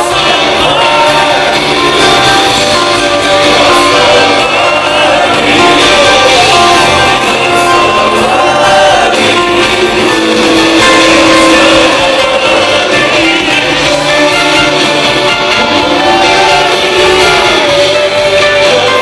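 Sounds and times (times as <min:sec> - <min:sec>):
crowd shouting: 0:00.0 - 0:19.0
live praise band with singers: 0:00.0 - 0:19.0.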